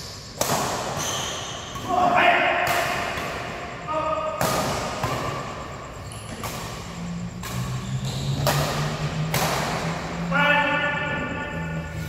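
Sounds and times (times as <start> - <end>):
badminton rackets hitting shuttlecock: 0.0 - 10.2.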